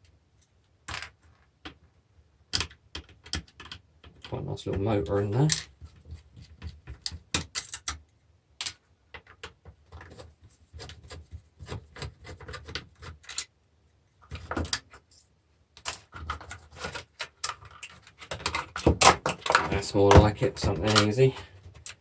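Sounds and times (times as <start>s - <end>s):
small parts clicking and rattling: 2.5s - 4.3s, 5.3s - 13.6s, 14.2s - 22.0s.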